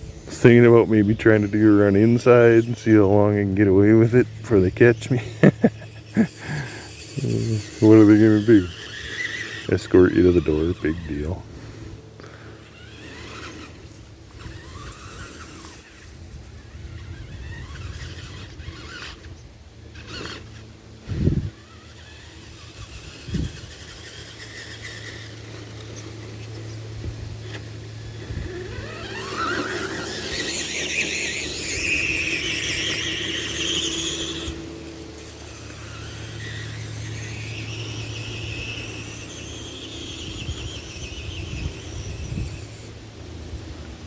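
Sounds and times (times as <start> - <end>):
toy truck motor humming: 0.0 - 44.0.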